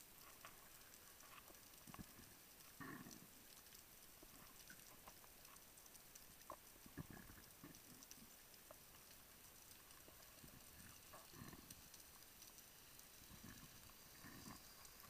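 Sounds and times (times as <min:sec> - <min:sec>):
underwater clicks and crackles: 0:00.0 - 0:15.0.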